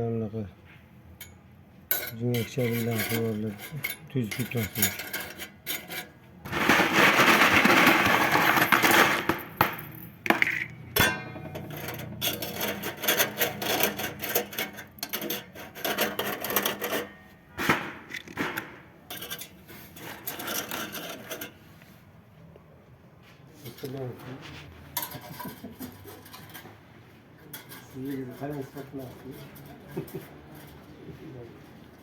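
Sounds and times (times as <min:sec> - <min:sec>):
metal pieces knocking and rubbing: 0:01.2 - 0:21.6, 0:24.9 - 0:26.8, 0:27.4 - 0:31.0
rustling and scraping: 0:01.9 - 0:32.0.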